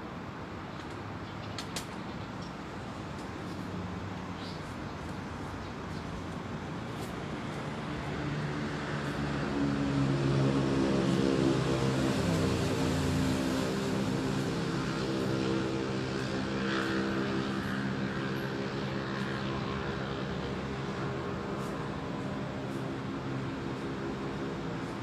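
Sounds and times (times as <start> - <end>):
engine drone of passing motor: 2.8 - 25.0.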